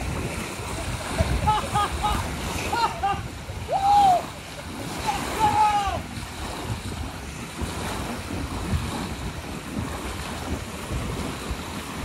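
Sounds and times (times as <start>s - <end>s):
small waves washing onto beach: 0.0s - 12.0s
wind rumbling on microphone: 0.0s - 12.0s.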